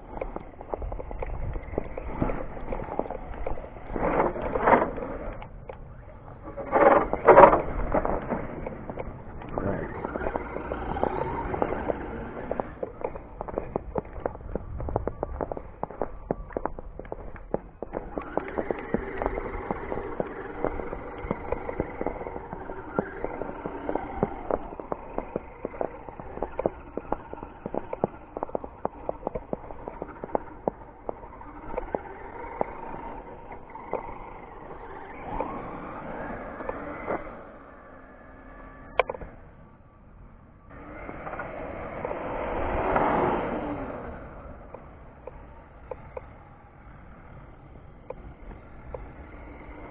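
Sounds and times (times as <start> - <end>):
rc car motor whine: 0.0 - 39.5, 40.7 - 49.9.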